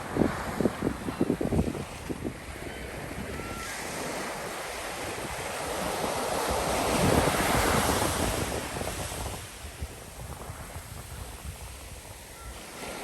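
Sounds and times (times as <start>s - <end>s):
wind on the microphone: 0.0s - 13.0s.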